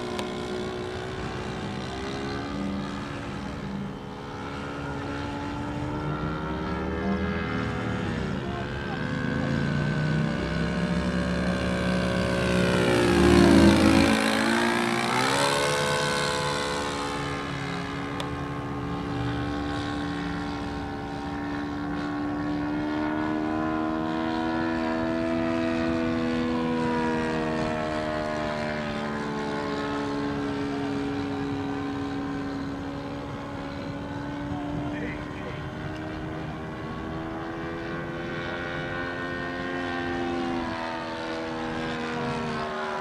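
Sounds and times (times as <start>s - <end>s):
model airplane motor passing: 0.0s - 43.0s.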